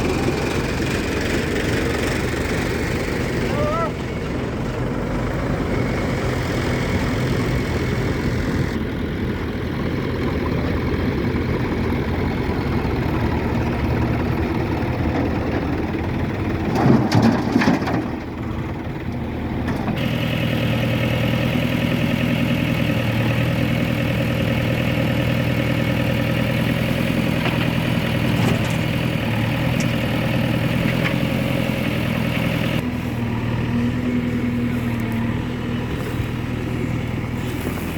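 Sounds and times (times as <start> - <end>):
heavy machinery diesel engine: 0.0 - 37.9.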